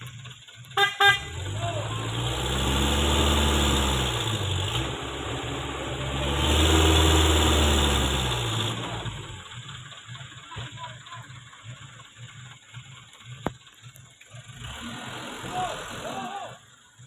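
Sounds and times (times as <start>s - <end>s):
vehicle engine revving in mud: 0.0s - 17.0s.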